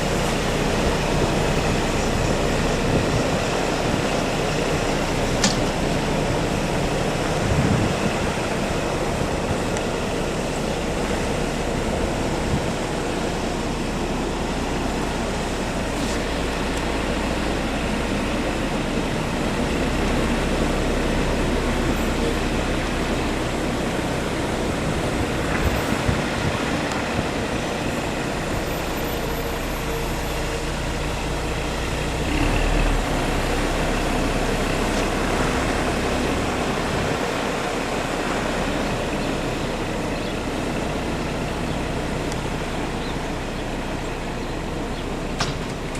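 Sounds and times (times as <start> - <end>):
road machinery engine hum: 0.0 - 45.9.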